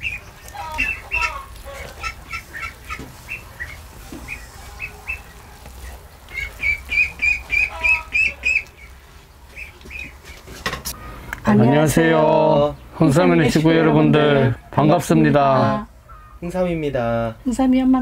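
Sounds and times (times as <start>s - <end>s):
birds chirping: 0.0s - 17.7s.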